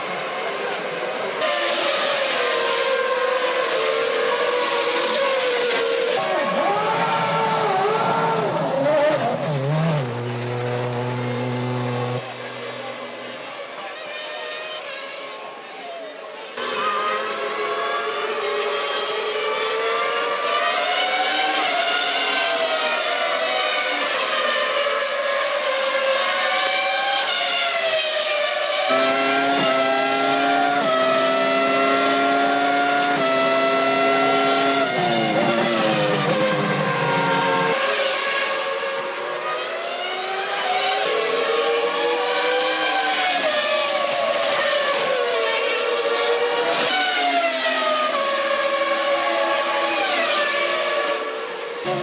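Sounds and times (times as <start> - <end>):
racing car engines high-pitched: 0.0 - 52.0.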